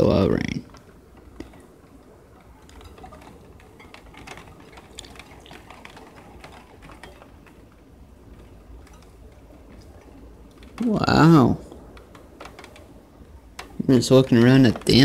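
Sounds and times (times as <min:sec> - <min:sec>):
low steady rumble: 0:00.0 - 0:15.0
rain tapping on window: 0:00.0 - 0:15.0.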